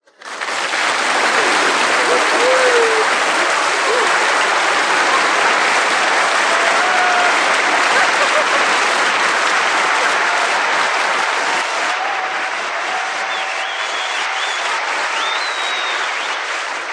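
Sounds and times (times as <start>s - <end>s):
audience applauding: 0.0s - 16.9s
cheers and whoops: 1.2s - 16.6s.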